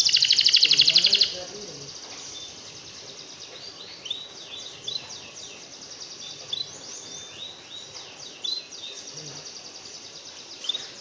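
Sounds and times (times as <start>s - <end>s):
faint steady hiss: 0.0s - 11.0s
songbird chirping: 0.0s - 11.0s.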